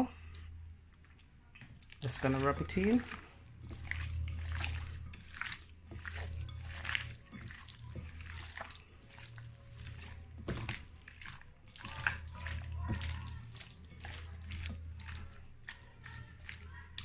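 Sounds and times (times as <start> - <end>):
low hum: 0.0 - 1.5, 2.1 - 15.6
hands squishing raw chicken: 1.0 - 17.0.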